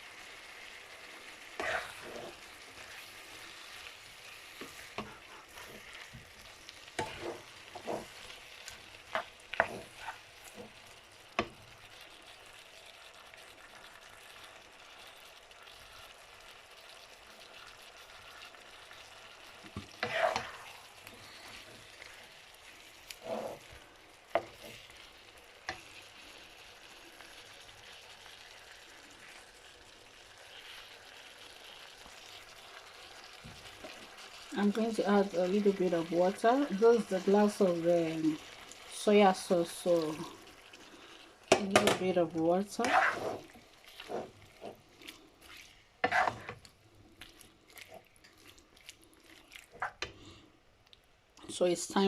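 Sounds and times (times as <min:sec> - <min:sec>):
food sizzling in a wok: 0:00.0 - 0:52.0.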